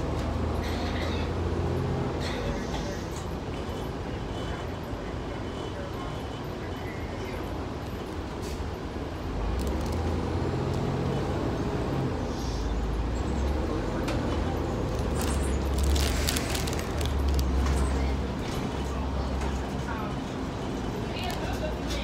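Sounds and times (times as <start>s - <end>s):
bus engine accelerating: 0.0s - 6.9s, 7.6s - 22.0s.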